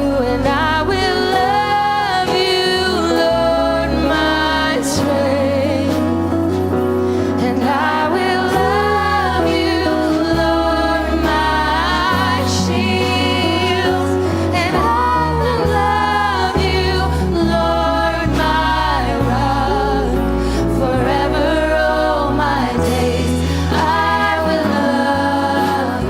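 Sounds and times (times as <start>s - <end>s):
group of singers: 0.0s - 26.0s
sustained bass notes: 0.0s - 26.0s.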